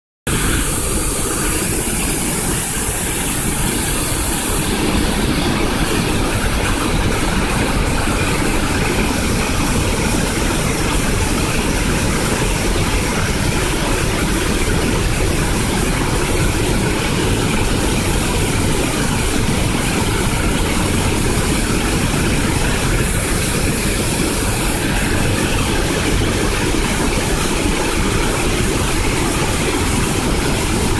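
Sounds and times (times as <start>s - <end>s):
waterfall rushing: 0.3s - 30.9s.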